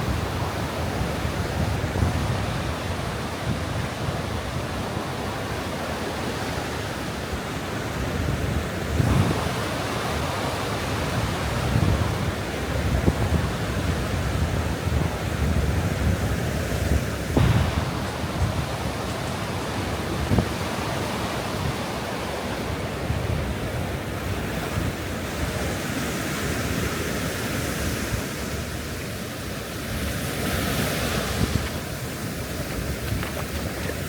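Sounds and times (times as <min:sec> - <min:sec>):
ocean surf on beach: 0:00.0 - 0:34.0
wind buffeting microphone: 0:00.0 - 0:34.0.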